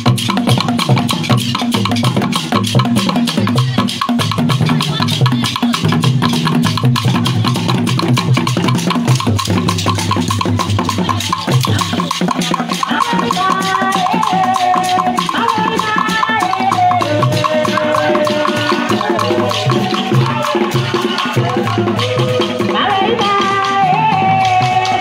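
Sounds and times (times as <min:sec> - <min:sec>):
fast percussion music: 0:00.0 - 0:25.0.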